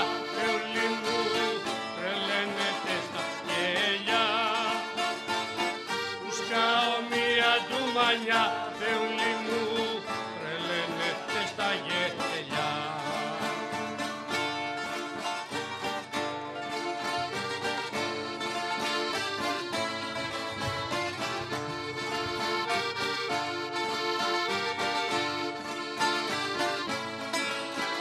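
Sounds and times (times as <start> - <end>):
plucked string melody: 0.0 - 28.0
strummed rhythm: 0.0 - 28.0.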